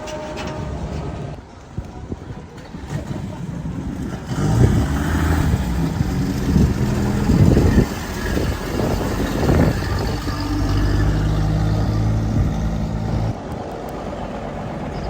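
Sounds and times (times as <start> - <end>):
truck engine revving: 2.6 - 15.0.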